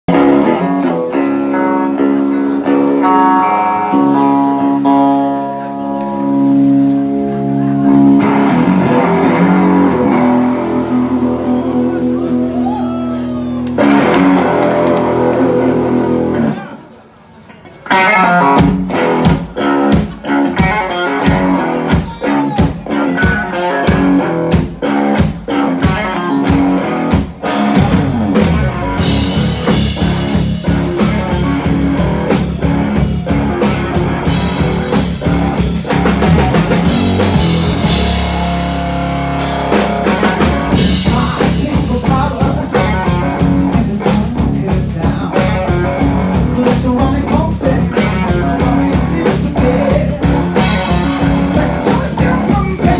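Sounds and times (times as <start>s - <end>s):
blues rock band playing: 0.1s - 16.6s, 17.8s - 52.9s.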